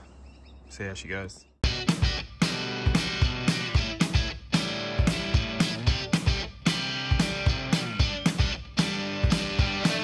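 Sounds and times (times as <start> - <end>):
drum kit beat: 1.6 - 10.0
strummed guitar: 1.6 - 10.0.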